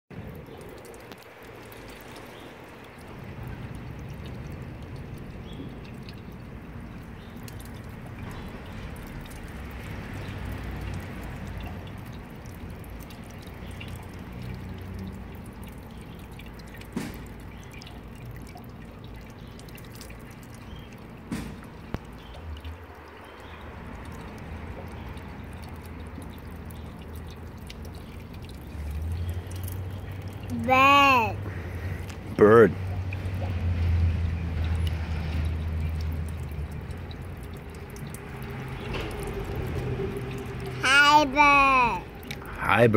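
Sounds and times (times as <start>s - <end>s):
water splashing into metal basin: 0.2s - 42.6s.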